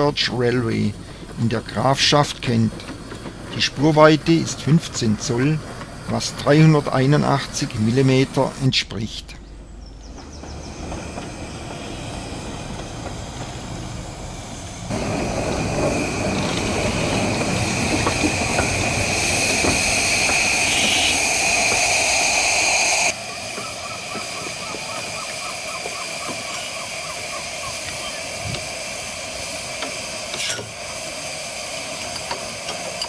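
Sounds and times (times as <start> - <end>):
steam hissing: 0.0 - 8.8, 10.2 - 33.0.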